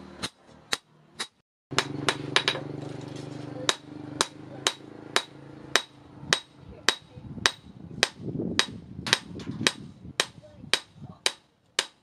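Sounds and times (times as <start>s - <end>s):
hammer striking steel on anvil: 0.2s - 2.8s, 3.6s - 12.0s.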